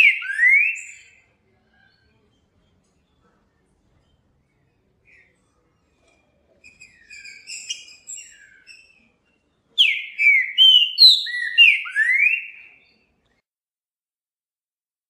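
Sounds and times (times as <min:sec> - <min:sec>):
bird singing: 0:00.0 - 0:03.2, 0:03.9 - 0:13.4.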